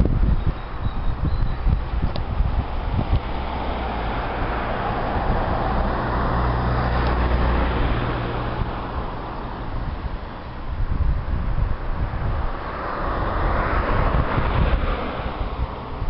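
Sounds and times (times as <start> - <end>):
traffic rushing: 0.0 - 16.0
wind buffeting microphone: 0.0 - 16.0.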